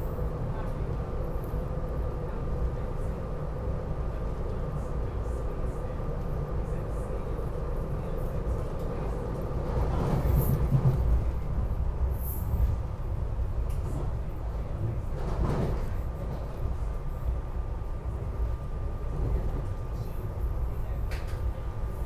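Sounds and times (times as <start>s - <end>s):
electric train rumbling on rails: 0.0s - 22.0s.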